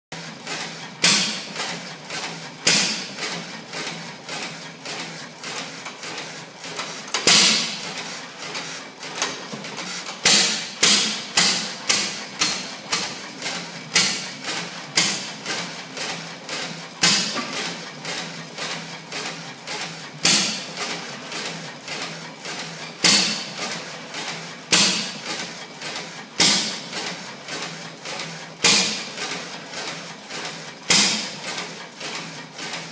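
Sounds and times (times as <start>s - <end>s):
stationary gas engine running: 0.2s - 32.9s.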